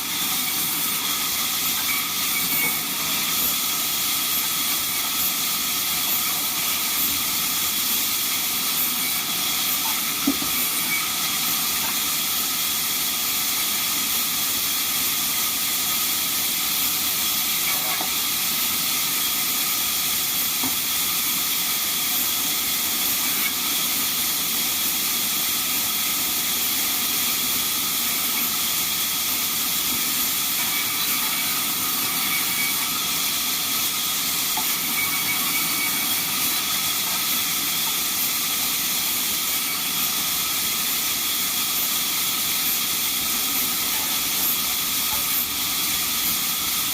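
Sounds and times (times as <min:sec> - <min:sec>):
band sawmill hissing: 0:00.0 - 0:46.9.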